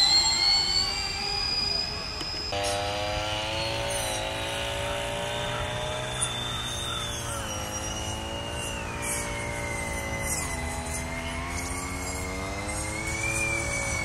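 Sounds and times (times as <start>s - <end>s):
model aircraft engines droning: 0.0s - 14.0s.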